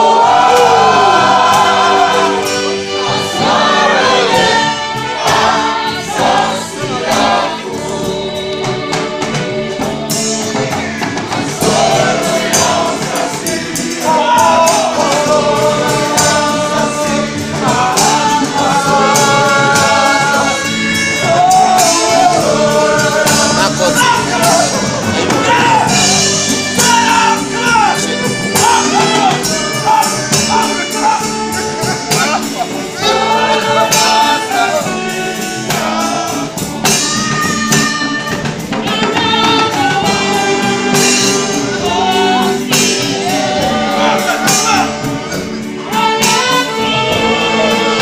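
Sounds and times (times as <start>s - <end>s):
percussion beat: 0.0s - 48.0s
voices singing in chorus: 0.0s - 48.0s.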